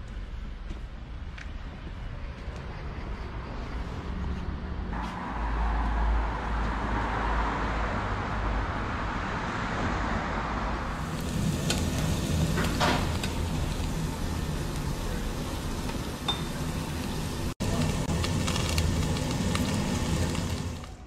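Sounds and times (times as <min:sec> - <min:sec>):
cars passing with tyre hiss: 0:02.8 - 0:21.0.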